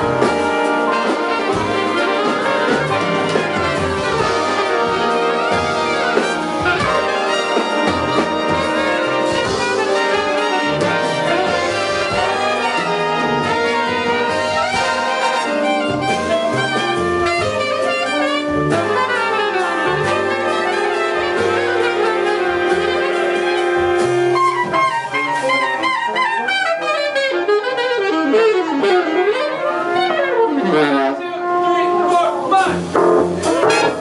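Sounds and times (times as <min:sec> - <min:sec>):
big band playing jazz: 0:00.0 - 0:34.0.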